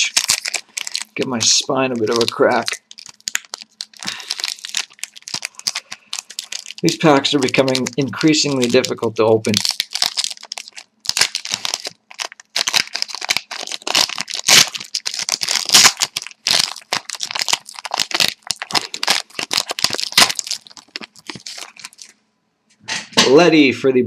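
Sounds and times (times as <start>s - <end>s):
plastic wrapper tearing and crinkling: 0.0s - 22.2s.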